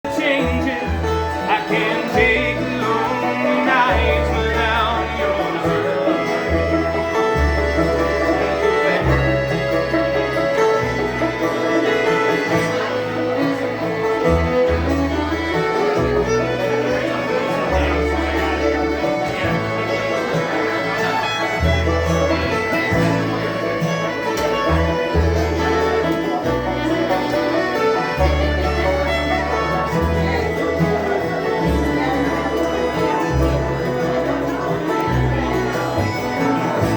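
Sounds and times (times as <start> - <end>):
banjo: 0.0 - 36.9
bass line: 0.0 - 36.9
fiddle: 0.0 - 36.9
guitar: 0.0 - 36.9.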